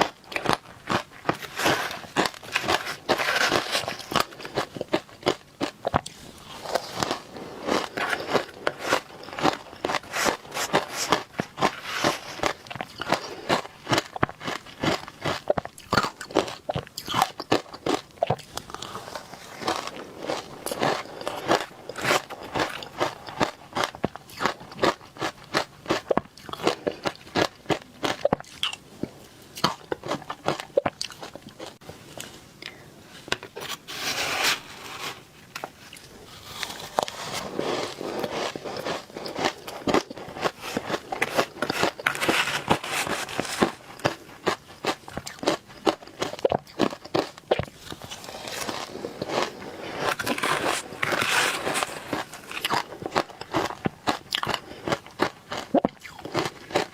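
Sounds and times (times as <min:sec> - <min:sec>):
ice being bitten and chewed: 0:00.0 - 0:34.2, 0:34.8 - 0:56.9.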